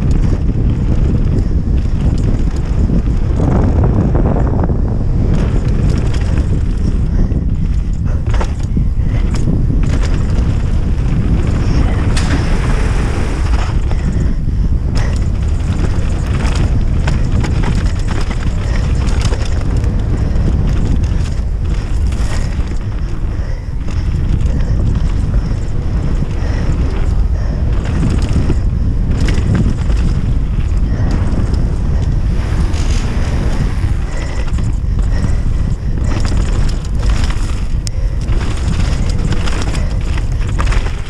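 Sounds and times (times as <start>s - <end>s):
bike knocks and rattles: 0.0s - 41.0s
tyres running over dirt and rock: 0.0s - 41.0s
wind rumble on microphone: 0.0s - 41.0s.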